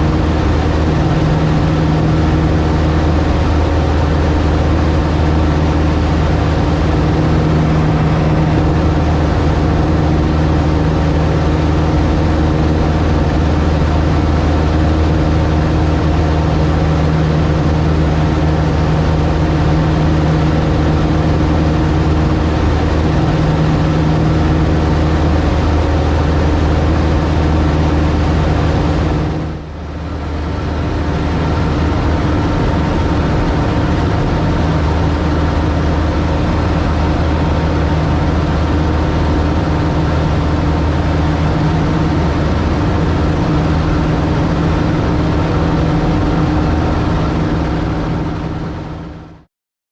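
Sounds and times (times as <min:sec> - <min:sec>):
light aircraft engine droning: 0:00.0 - 0:49.5.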